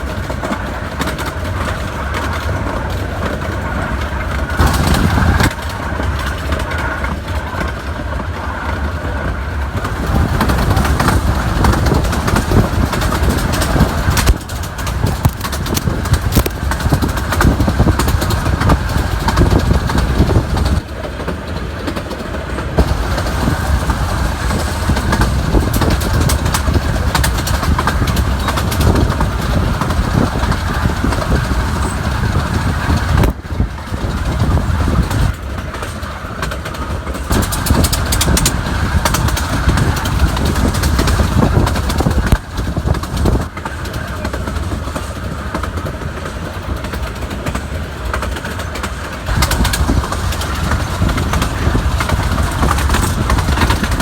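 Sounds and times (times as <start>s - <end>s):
miniature train rumbling and clattering: 0.0s - 54.0s.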